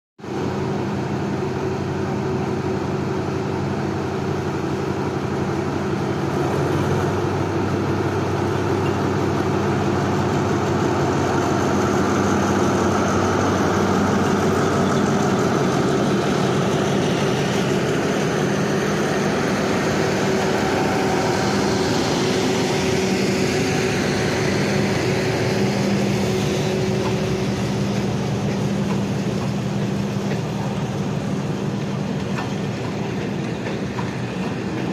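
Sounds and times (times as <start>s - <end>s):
locomotive engine drone: 0.2s - 34.9s
train coaches rolling by: 0.2s - 34.9s.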